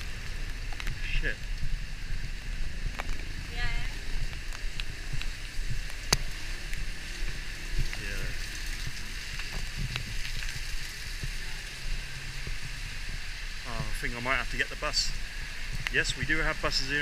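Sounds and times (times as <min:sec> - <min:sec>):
heavy rain pouring: 0:00.0 - 0:17.0
low rumble: 0:00.0 - 0:17.0.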